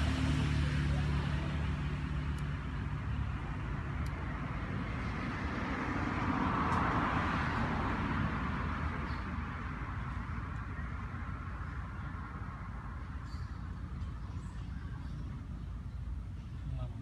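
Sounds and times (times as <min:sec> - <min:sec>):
low rumble of motor traffic: 0:00.0 - 0:17.0.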